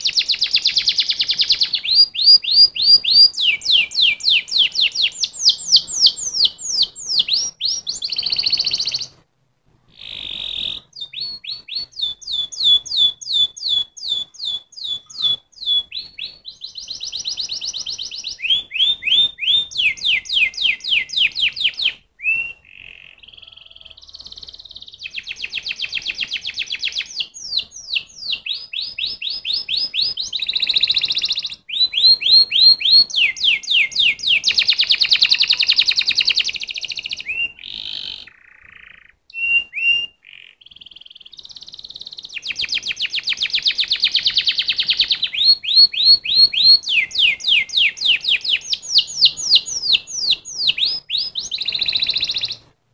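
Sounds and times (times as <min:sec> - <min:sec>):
canary singing: 0:00.0 - 0:09.2, 0:09.9 - 0:52.8.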